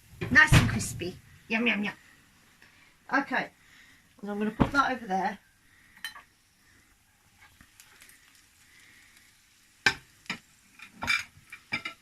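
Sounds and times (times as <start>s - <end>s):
fish sizzling: 0.0s - 4.1s, 5.6s - 12.0s.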